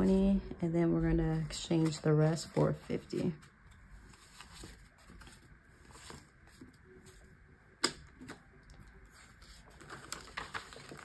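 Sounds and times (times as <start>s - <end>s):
banknotes rustling and flicking: 1.3s - 7.4s, 8.2s - 11.0s.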